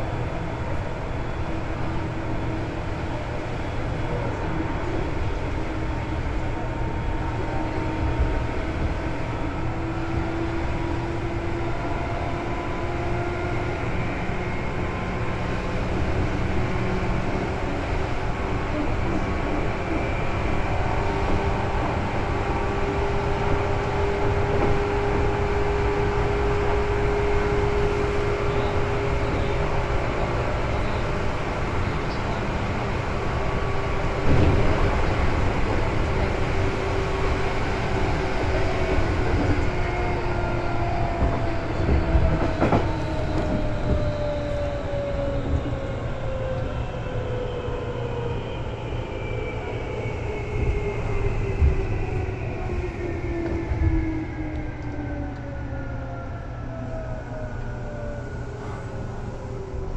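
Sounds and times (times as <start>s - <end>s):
electric train rumble and motor whine: 0.0s - 59.9s.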